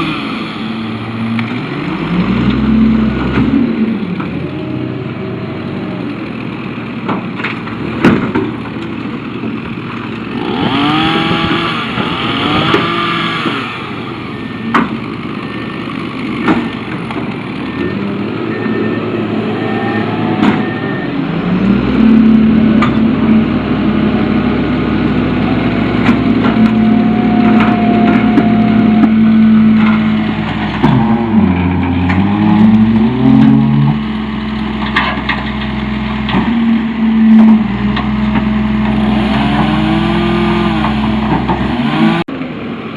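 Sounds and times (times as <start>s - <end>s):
diesel engine revving: 0.0s - 42.8s.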